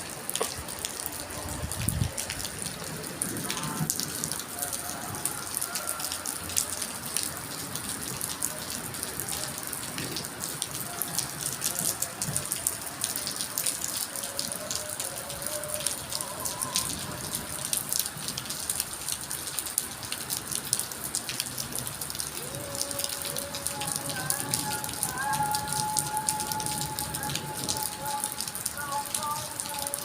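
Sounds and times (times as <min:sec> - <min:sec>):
heavy rain on hard surfaces: 0:00.0 - 0:30.0.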